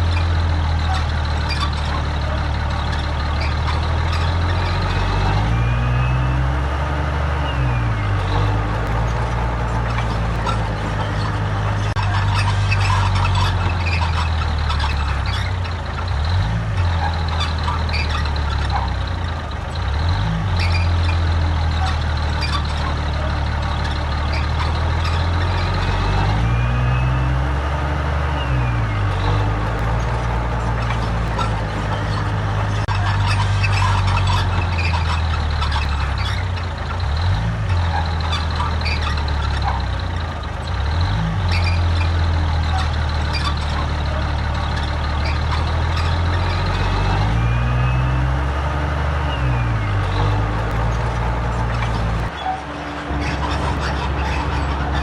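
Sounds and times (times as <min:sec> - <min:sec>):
machinery clanks and knocks: 0:00.0 - 0:05.6, 0:06.6 - 0:26.6, 0:28.9 - 0:47.5, 0:49.8 - 0:55.0
diesel engine under load: 0:00.0 - 0:55.0.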